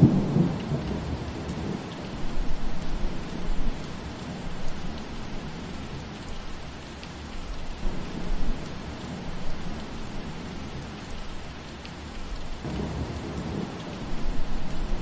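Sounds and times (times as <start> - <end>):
rain falling through trees: 0.0 - 15.0.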